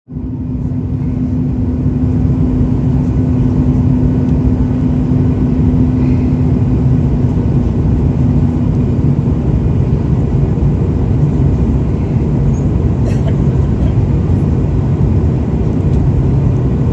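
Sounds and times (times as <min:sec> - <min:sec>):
airliner engines and airflow rumble: 0:00.1 - 0:16.9
steady hum: 0:00.1 - 0:16.9.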